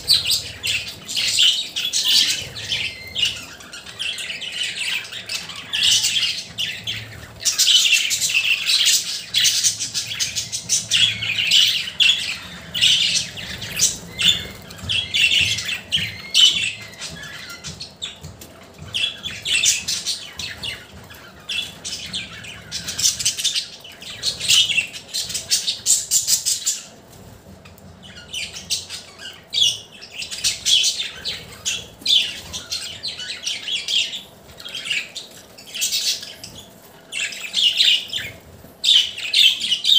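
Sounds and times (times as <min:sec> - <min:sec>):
budgerigars chirping: 0:00.0 - 0:27.3, 0:27.9 - 0:39.9.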